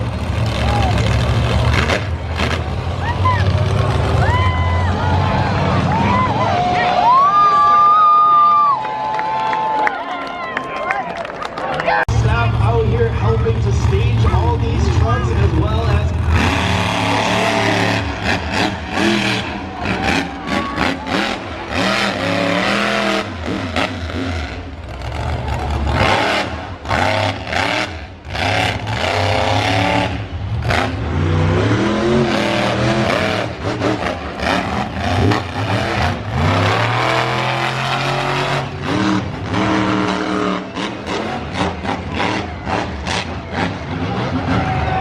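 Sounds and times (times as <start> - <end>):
truck engine revving: 0.0 - 7.0, 12.1 - 45.0.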